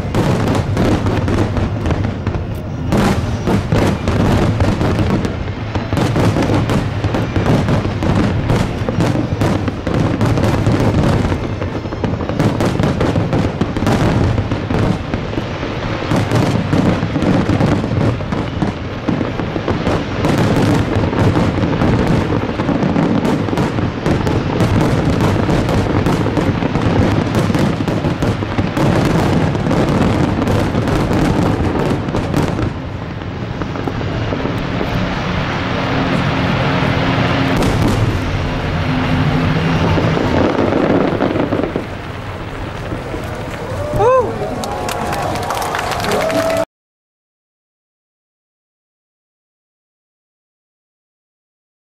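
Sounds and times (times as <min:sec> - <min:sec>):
fireworks bangs and crackles: 0:00.0 - 0:46.6.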